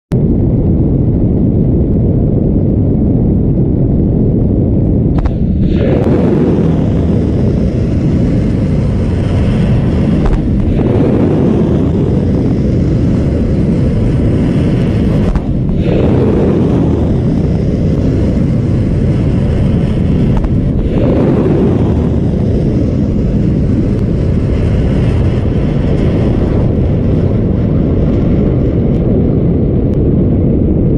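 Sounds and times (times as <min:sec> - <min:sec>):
rushing wind and water: 0:00.1 - 0:30.9
missiles launching rumble: 0:00.2 - 0:30.9.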